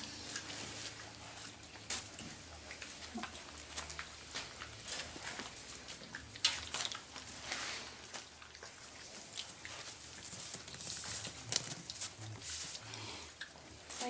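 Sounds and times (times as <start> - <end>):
puppies' paws tapping on floor: 0.0 - 12.8.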